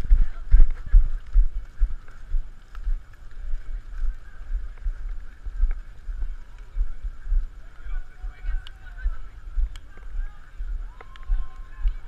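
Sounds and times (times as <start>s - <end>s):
muffled running footfalls: 0.0s - 12.0s.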